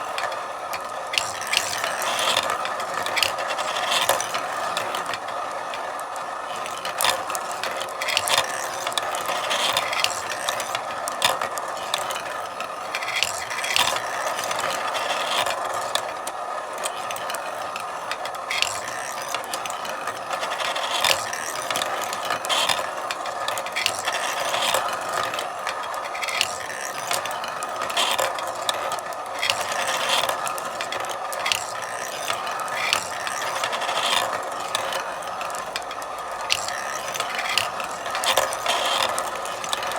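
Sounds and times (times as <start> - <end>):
marbles clicking and clacking: 0.0 - 39.9
marbles rolling on tracks: 0.0 - 39.9.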